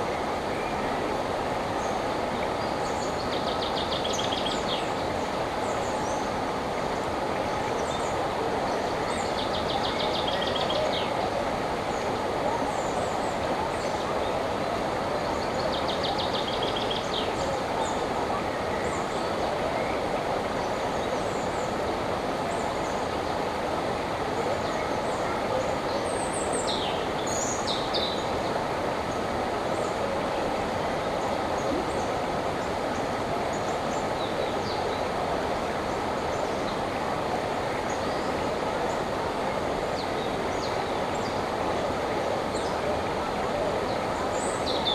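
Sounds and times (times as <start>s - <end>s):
river flowing: 0.0s - 44.9s
songbirds singing: 0.0s - 44.9s.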